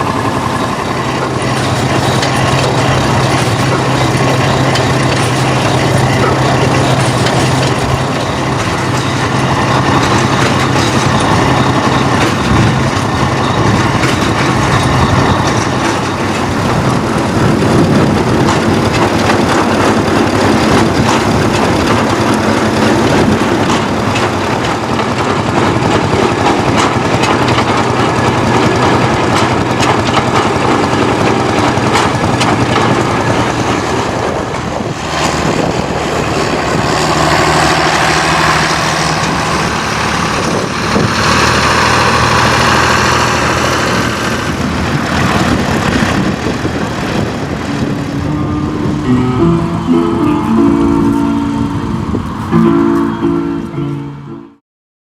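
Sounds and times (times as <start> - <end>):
tractor engine running: 0.0 - 54.6.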